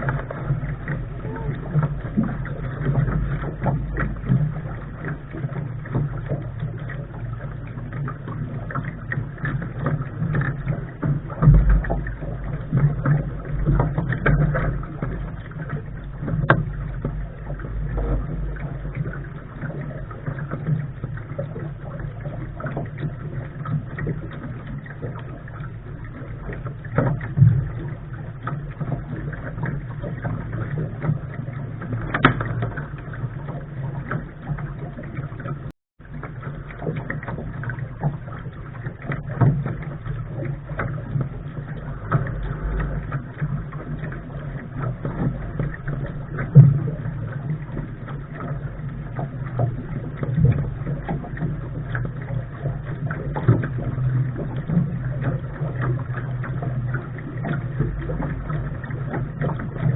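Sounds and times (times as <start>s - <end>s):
wind and water rushing: 0.0s - 59.9s.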